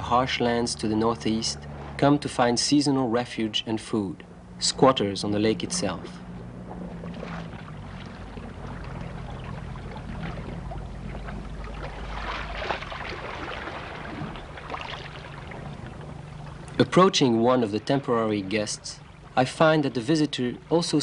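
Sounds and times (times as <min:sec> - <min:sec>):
outboard motor running: 0:00.0 - 0:21.0
water lapping: 0:00.0 - 0:21.0.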